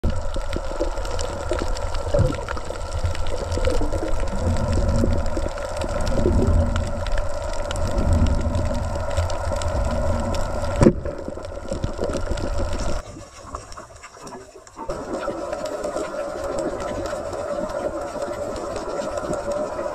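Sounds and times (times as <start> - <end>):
muffled underwater rumble: 0.0 - 19.9.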